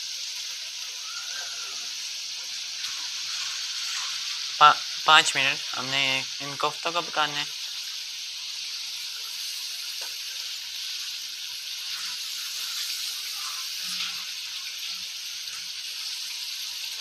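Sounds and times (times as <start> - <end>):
gravy sizzling in a wok: 0.0 - 17.0.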